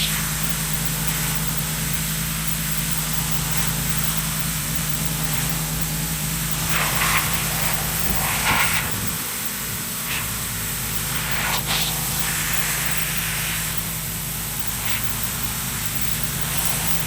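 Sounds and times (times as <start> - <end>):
pressure washer motor hum: 0.0 - 17.0
water spray hissing: 0.0 - 17.0.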